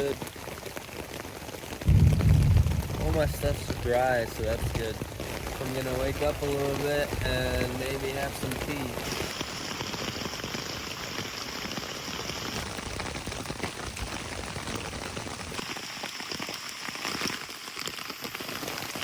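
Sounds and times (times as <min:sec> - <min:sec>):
hard rain on a tarp: 0:00.0 - 0:19.0.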